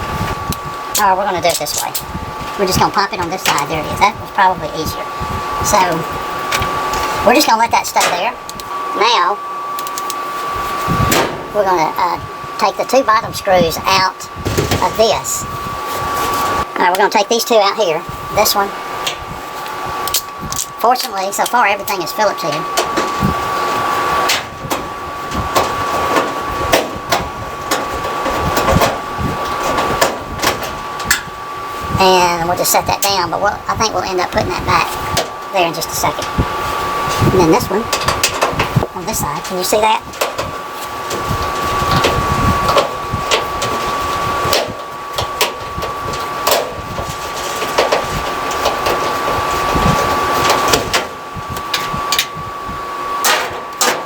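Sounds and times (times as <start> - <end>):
thin high hum: 0.0 - 54.0.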